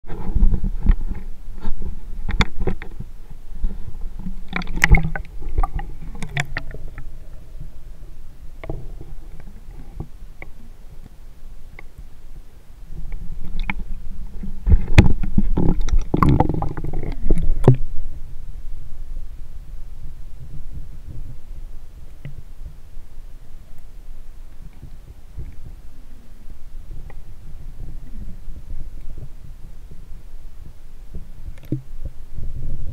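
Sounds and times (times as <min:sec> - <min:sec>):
muffled underwater water rumbling: 0:00.0 - 0:32.9.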